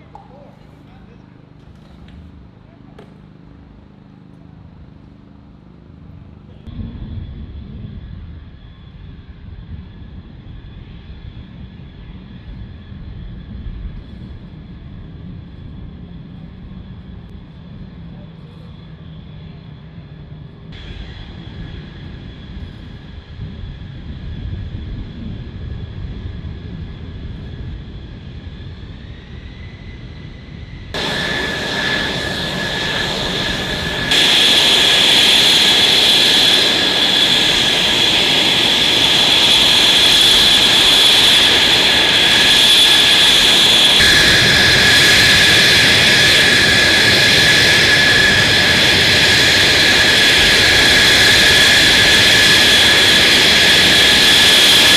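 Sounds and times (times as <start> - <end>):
jet engine whine and roar: 0.0 - 54.9.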